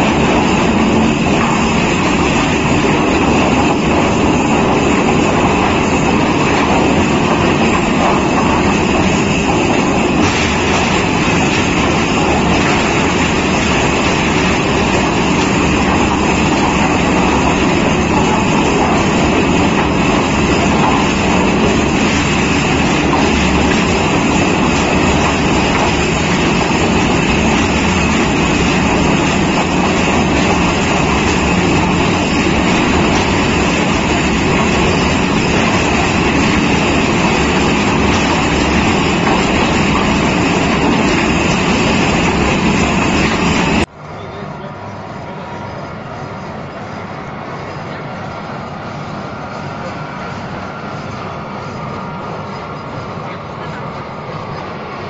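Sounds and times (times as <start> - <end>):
log debarker machine running: 0.0 - 55.0.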